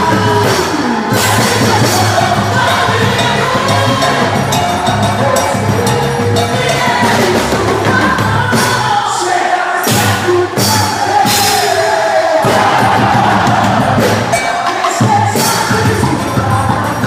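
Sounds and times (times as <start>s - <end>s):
high percussion: 0.0s - 9.2s, 9.8s - 17.0s
crowd noise: 0.0s - 17.0s.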